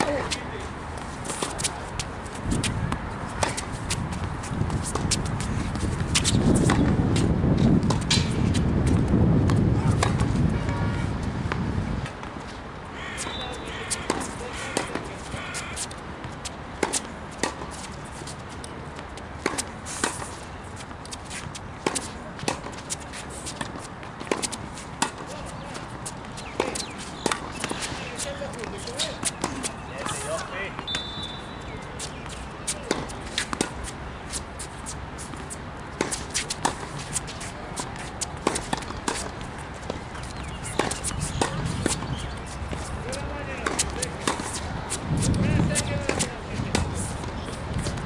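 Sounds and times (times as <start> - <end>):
players' footsteps: 0.0 - 48.0
tennis ball bouncing on hard court: 1.0 - 10.8, 13.2 - 34.4, 35.2 - 48.0
tennis ball struck by rackets: 2.4 - 10.8, 13.2 - 15.9, 16.8 - 17.7, 19.4 - 20.4, 21.0 - 34.0, 35.4 - 48.0.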